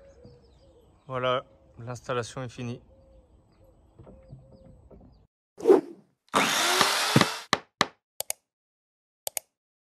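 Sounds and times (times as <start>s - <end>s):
faint outdoor background: 0.0s - 8.6s.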